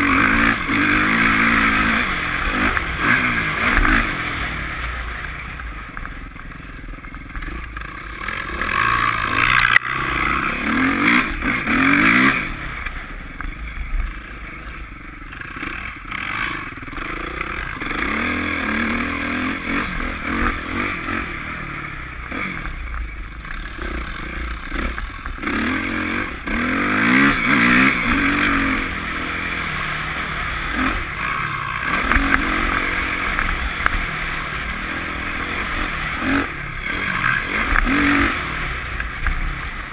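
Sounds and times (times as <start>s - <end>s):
dirt bike engine accelerating: 0.0s - 39.9s.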